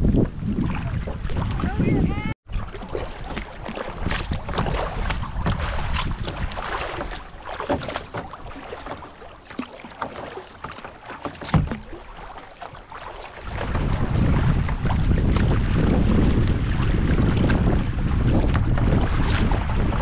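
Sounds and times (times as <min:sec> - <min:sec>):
wind buffeting microphone: 0:00.0 - 0:09.0, 0:12.9 - 0:20.0
paddle splashing in water: 0:00.0 - 0:20.0.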